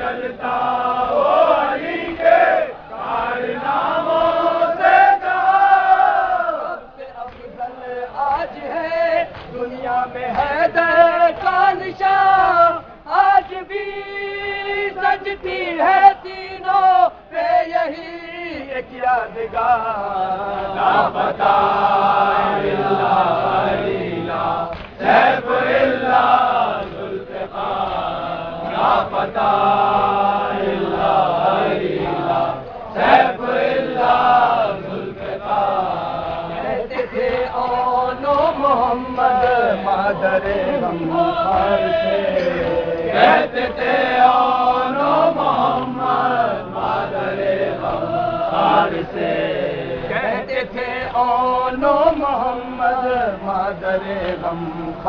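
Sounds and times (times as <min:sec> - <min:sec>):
men chanting together: 0:00.0 - 0:55.0.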